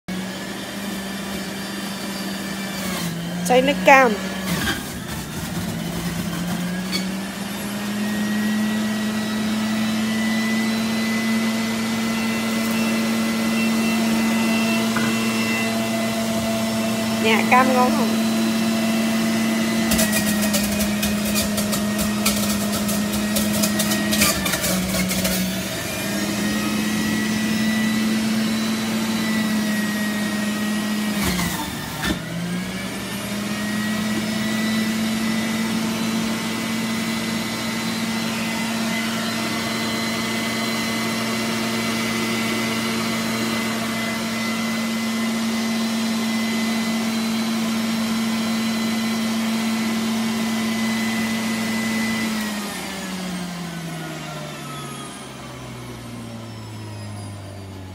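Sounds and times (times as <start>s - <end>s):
juicer motor running: 0.1s - 57.9s.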